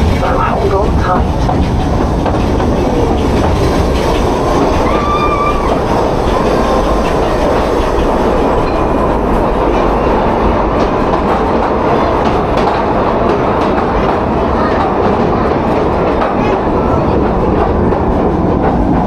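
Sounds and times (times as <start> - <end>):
train wheels clattering on track: 0.0 - 19.0.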